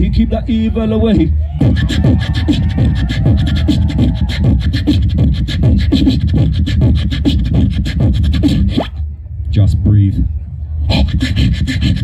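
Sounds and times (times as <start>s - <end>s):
beatboxing: 0.8s - 9.1s, 10.1s - 12.0s.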